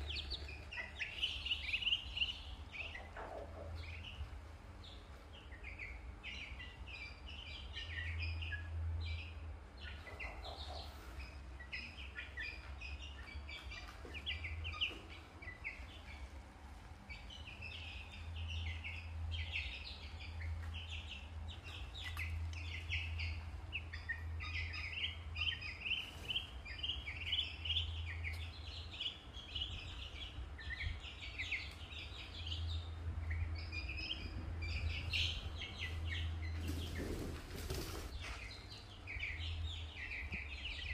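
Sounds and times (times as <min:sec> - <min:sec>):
ducklings peeping: 0:00.0 - 0:40.9
low steady hum: 0:00.0 - 0:40.9.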